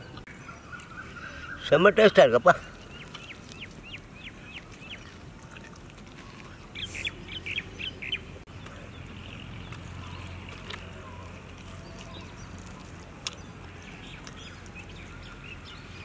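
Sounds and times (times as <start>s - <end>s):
bird chirping: 0.0s - 5.2s, 6.2s - 16.0s.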